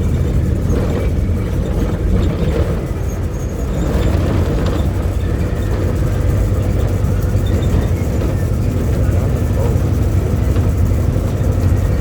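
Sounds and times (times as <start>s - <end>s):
bus diesel engine drone: 0.0s - 12.0s
road and body noise: 0.0s - 12.0s.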